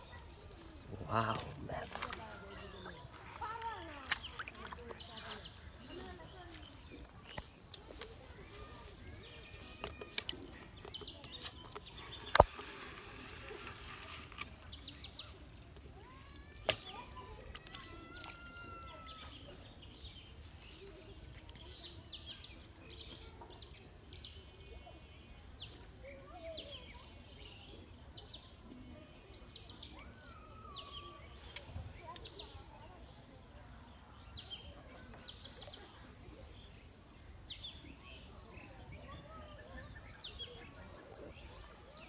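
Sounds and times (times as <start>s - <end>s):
outdoor background noise: 0.0s - 42.0s
small birds chirping: 0.0s - 42.0s.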